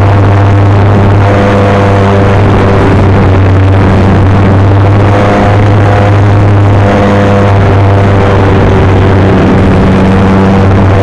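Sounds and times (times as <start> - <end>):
model airplane motor drone: 0.0 - 11.0.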